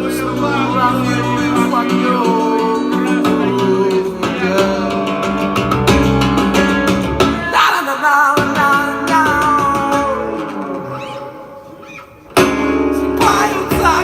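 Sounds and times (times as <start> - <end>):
bass: 0.0 - 7.7, 8.4 - 11.3, 12.3 - 14.0
guitar: 0.0 - 14.0.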